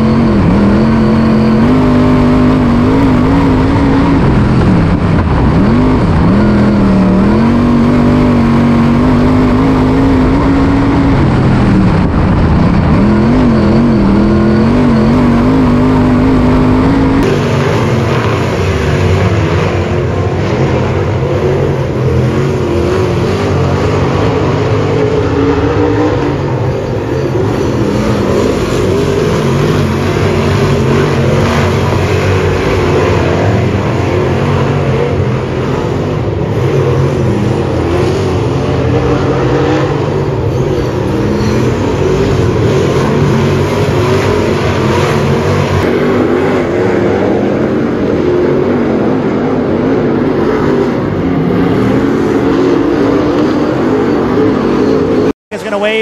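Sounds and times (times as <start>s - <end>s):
race car engine revving: 0.0s - 56.0s
race cars racing together: 0.0s - 56.0s.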